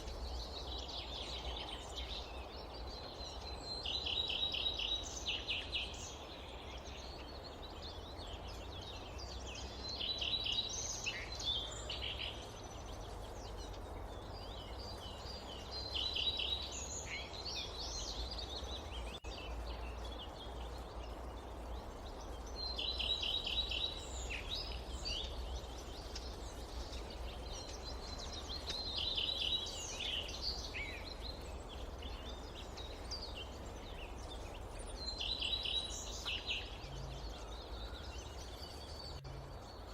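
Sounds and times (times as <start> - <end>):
low wind rumble: 0.0 - 39.9
songbird singing: 0.0 - 39.9.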